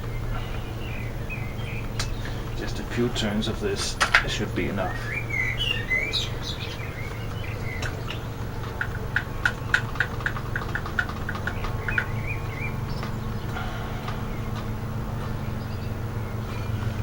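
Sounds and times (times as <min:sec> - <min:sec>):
bird chirps: 0:00.0 - 0:17.0
steady low hum: 0:00.0 - 0:17.0.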